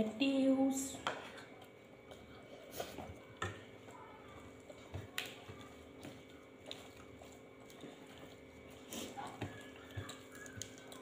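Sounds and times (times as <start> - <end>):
chewing: 1.1 - 11.0.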